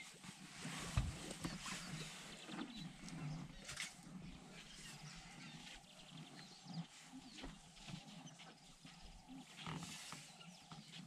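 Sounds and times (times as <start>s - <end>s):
elephants rumbling: 0.4s - 11.0s.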